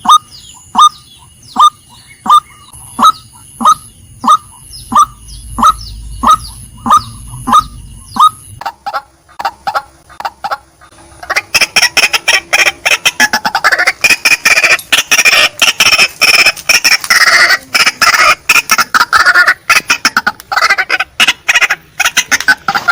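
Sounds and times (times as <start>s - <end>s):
harsh rapid bird chattering: 0.0s - 22.9s
waterhen clucking calls: 0.0s - 22.9s.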